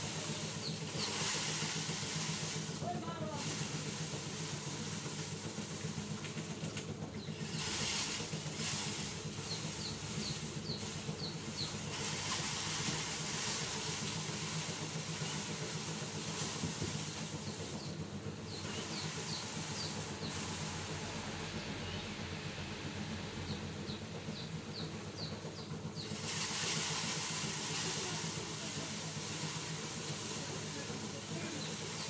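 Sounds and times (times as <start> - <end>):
mechanical drone with hiss: 0.0 - 32.0.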